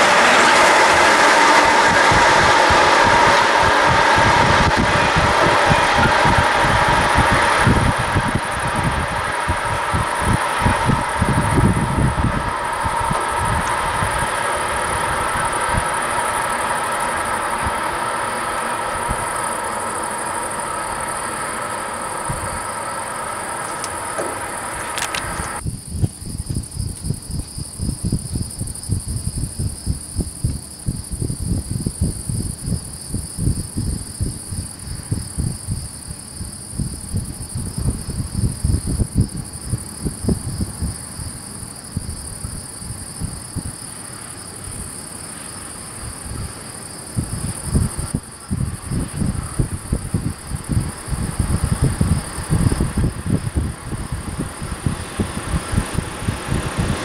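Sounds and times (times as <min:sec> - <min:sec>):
crickets chirping: 0:00.0 - 0:57.0
train wheels on rails: 0:00.0 - 0:57.0
wind gusts on microphone: 0:00.0 - 0:57.0.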